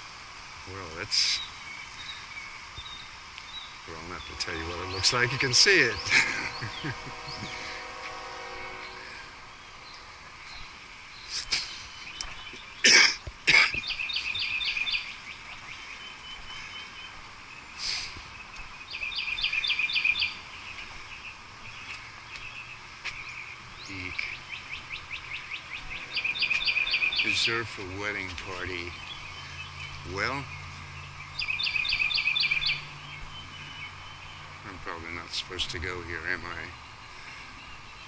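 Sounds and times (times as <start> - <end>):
songbird singing high notes: 0.8 - 12.8, 13.8 - 36.9.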